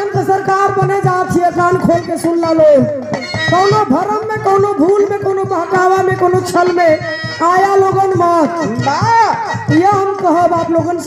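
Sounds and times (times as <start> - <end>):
hand drum beating: 0.0 - 11.0.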